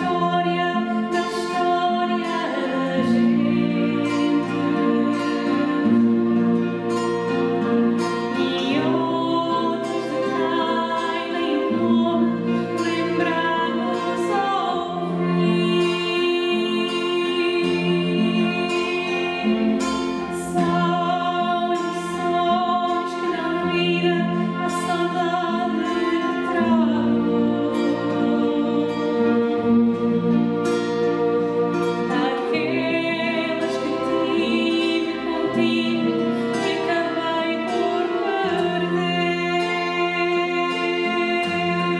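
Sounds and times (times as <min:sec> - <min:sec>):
woman singing: 0:00.0 - 0:06.6, 0:08.1 - 0:29.7, 0:32.0 - 0:41.9
classical guitars plucking chords: 0:00.0 - 0:41.9
violins holding notes: 0:00.0 - 0:41.9.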